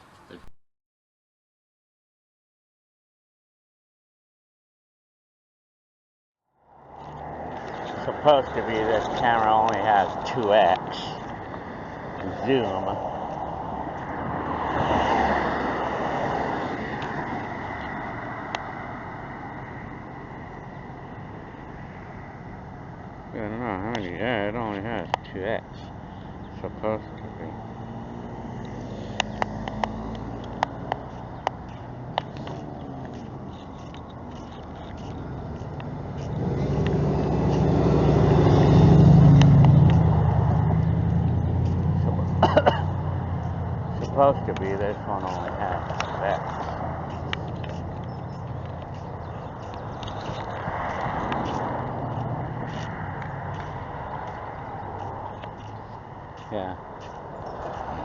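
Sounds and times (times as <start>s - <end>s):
vehicle passing by: 6.7s - 58.0s.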